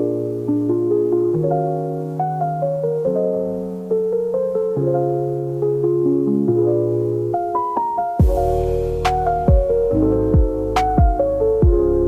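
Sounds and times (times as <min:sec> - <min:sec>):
keyboard chords over bass line: 0:00.0 - 0:12.0.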